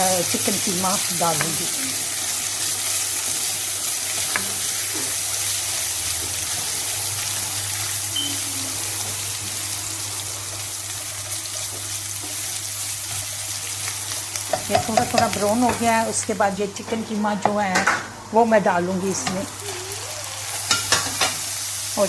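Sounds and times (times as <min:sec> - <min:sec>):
garlic sizzling in hot oil: 0:00.0 - 0:22.0.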